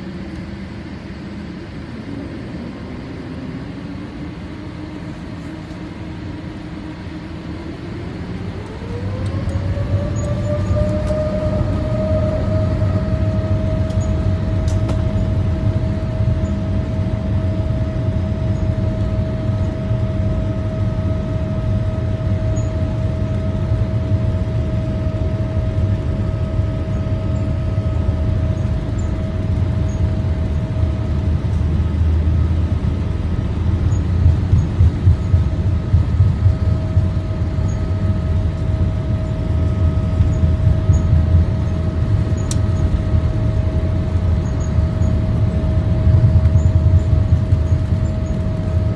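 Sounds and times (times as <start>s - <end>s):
jet engine rumble: 0.0s - 48.9s
steady engine whine: 0.0s - 48.9s.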